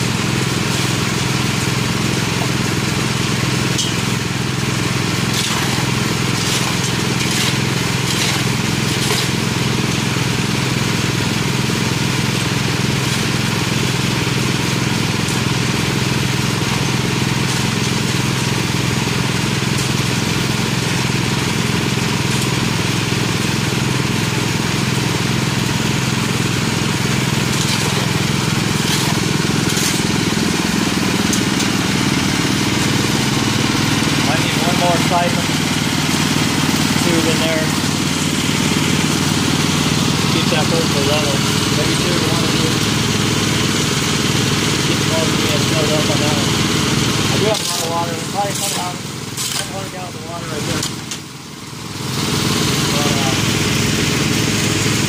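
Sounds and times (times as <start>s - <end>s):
drum tumbling wet gravel: 0.0s - 55.0s
small gasoline engine running: 0.0s - 55.0s.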